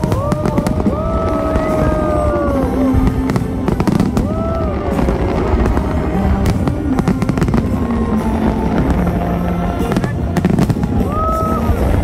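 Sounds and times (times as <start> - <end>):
fireworks bursting: 0.0 - 12.0
music playing: 0.0 - 12.0.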